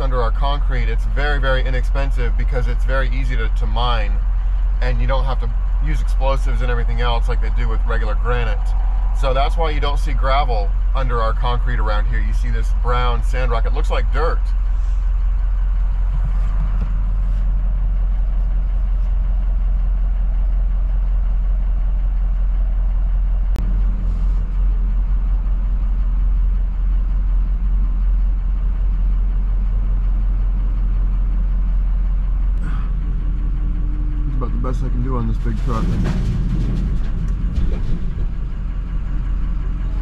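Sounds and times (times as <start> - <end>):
truck engine rumble: 0.0 - 40.0.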